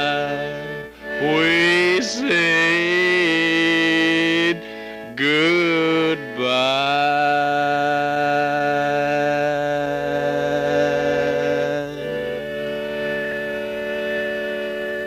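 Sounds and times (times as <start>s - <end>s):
backing music: 0.0s - 15.0s
man singing a long note: 0.0s - 15.0s.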